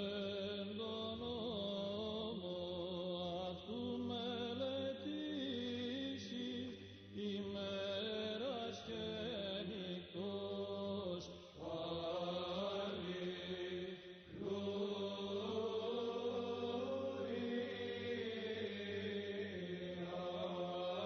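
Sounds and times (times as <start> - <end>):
chanted vocal music: 0.0 - 21.0.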